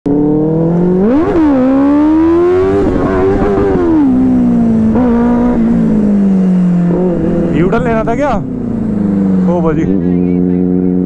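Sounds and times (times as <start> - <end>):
motorcycle engine accelerating: 0.1 - 11.0.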